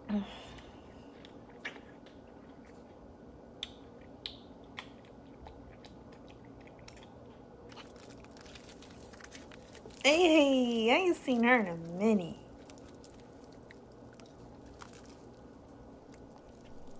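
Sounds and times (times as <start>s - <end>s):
soft chewing: 0.5s - 16.9s.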